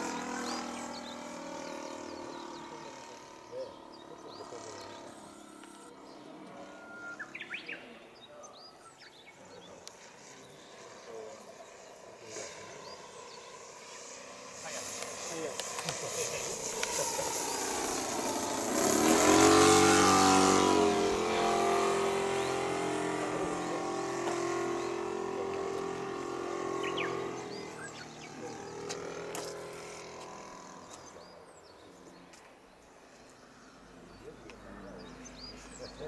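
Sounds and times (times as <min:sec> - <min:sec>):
model plane engine flying past: 0:00.0 - 0:36.0.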